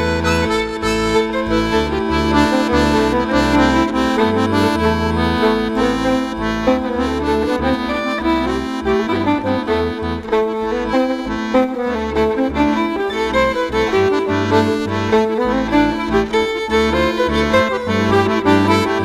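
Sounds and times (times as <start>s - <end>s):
accordion playing folk tune: 0.0s - 19.0s.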